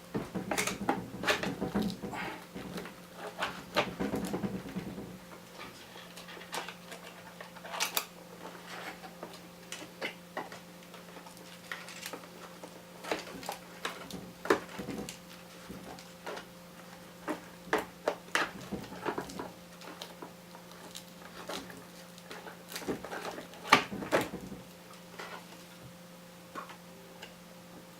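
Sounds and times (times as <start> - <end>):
faint steady hum: 0.0 - 27.9
rustling handling noise: 0.0 - 27.9.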